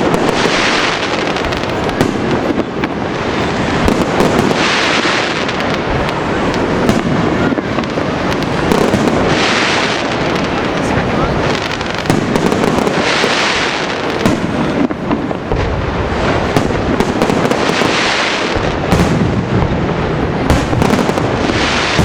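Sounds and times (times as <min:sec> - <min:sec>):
fireworks bangs and crackles: 0:00.0 - 0:22.0
fireworks hissing: 0:00.0 - 0:22.0.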